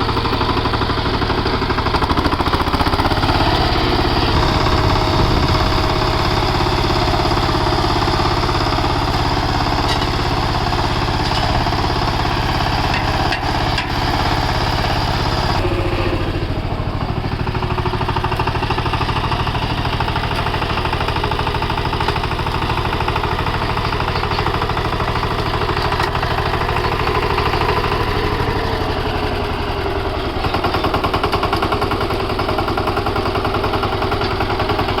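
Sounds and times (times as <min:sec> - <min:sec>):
diesel engine clattering: 0:00.0 - 0:35.0.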